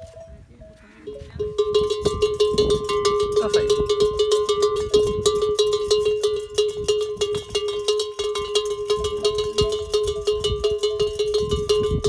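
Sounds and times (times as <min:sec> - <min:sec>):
camel bells clanking: 0:00.0 - 0:12.0
steady metallic ringing tone: 0:00.0 - 0:12.0.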